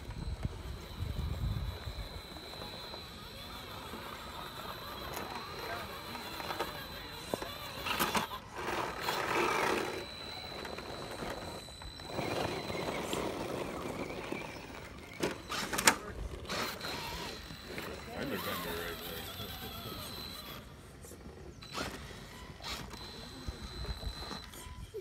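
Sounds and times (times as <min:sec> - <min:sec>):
toy car motor whine: 0:00.0 - 0:25.0.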